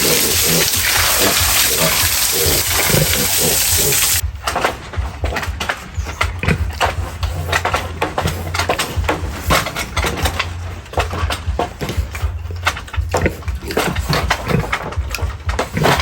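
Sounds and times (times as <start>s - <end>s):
pigs crunching feed: 0.0s - 16.0s
steady low hum: 0.0s - 16.0s.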